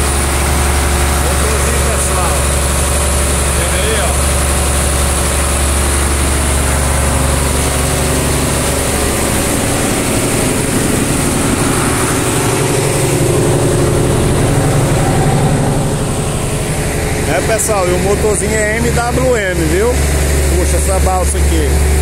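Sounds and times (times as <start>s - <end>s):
boat diesel engine humming: 0.0s - 22.0s.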